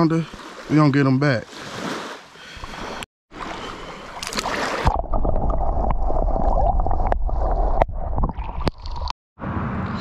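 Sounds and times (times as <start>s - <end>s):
water sloshing: 0.2s - 9.1s.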